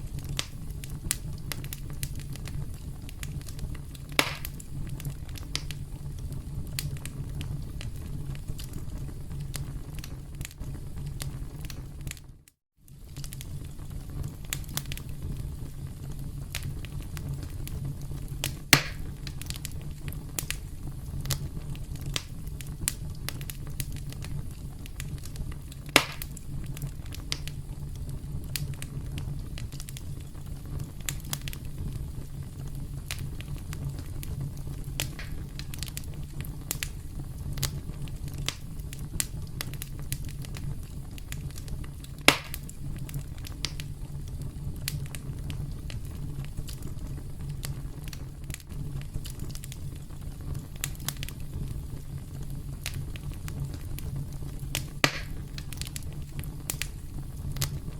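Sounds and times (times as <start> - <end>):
campfire rumble and crackling: 0.0 - 57.9.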